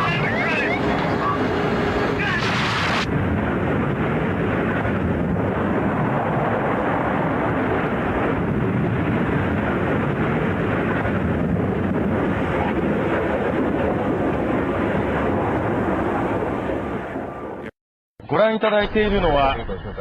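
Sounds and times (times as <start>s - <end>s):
aircraft engine rushing: 0.0s - 17.7s
wind on microphone: 0.0s - 17.7s.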